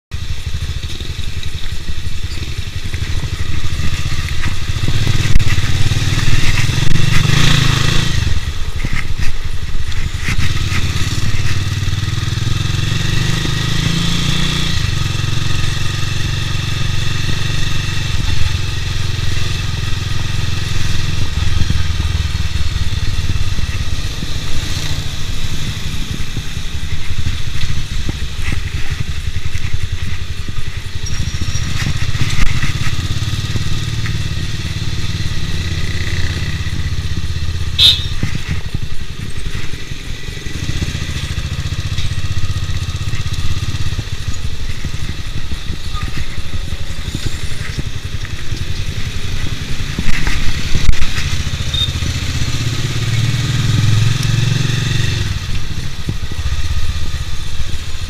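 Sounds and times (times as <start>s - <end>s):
motorcycle engine revving: 0.1s - 58.0s.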